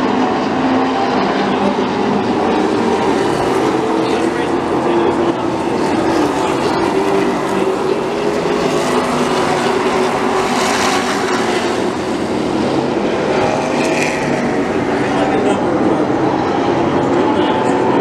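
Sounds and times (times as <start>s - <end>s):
race cars roaring past: 0.0s - 18.0s.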